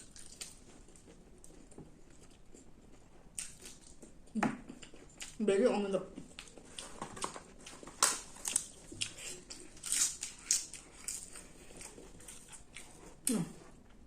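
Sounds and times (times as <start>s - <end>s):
person chewing crunchy food: 0.0s - 5.4s, 6.2s - 14.0s.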